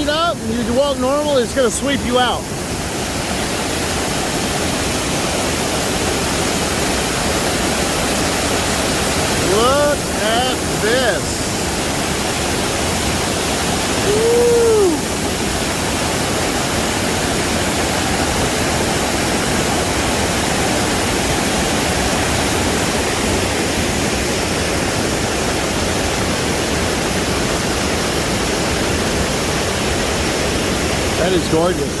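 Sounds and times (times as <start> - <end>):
waterfall and river rushing: 0.0 - 32.0.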